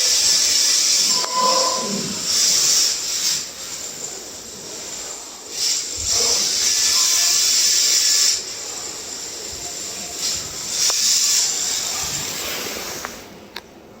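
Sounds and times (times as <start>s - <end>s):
toy car motor hissing: 0.0s - 12.8s.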